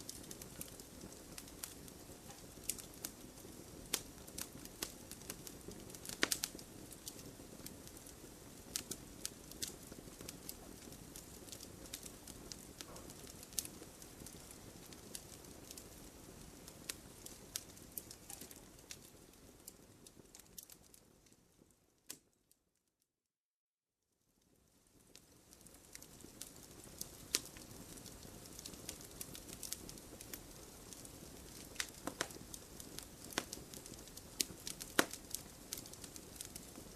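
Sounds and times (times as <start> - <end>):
wood fire crackling: 0.0 - 22.3, 24.4 - 36.9.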